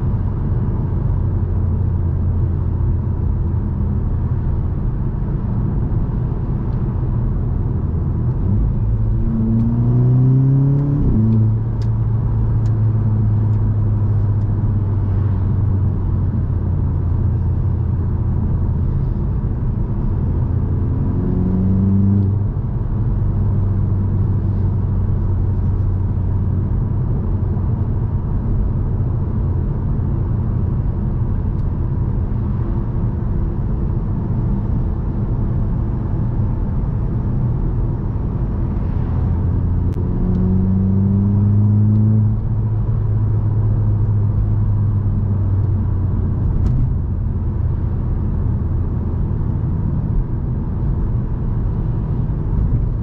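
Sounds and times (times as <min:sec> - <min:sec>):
road rumble: 0:00.0 - 0:53.0
car engine accelerating: 0:05.5 - 0:53.0.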